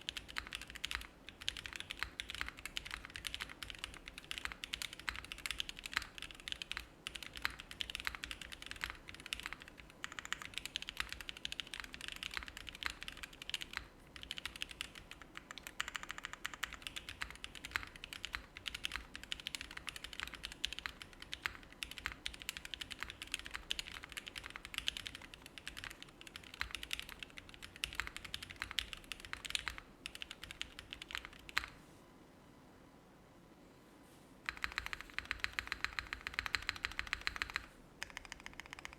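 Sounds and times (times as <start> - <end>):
mechanical keyboard typing: 0.0 - 31.8, 34.5 - 38.9
faint background buzz: 0.0 - 38.9.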